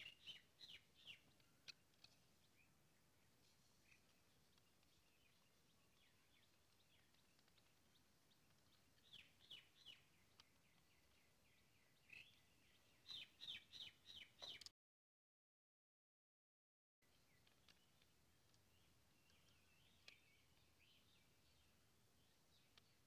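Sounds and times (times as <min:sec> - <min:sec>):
quiet bird chirping: 0:00.0 - 0:14.7, 0:17.0 - 0:23.0.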